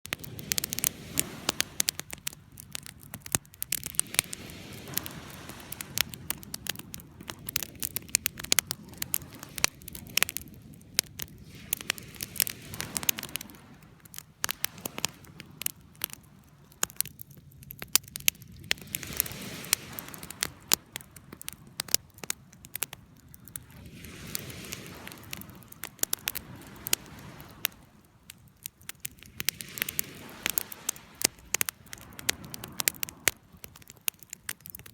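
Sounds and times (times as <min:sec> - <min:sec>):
campfire crackling and popping: 0:00.0 - 0:34.9
flames rushing: 0:00.0 - 0:34.9.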